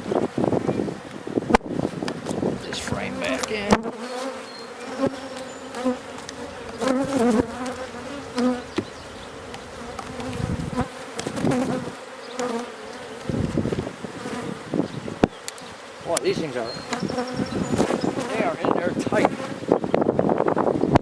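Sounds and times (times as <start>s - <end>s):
honey bees buzzing: 0.0s - 21.0s.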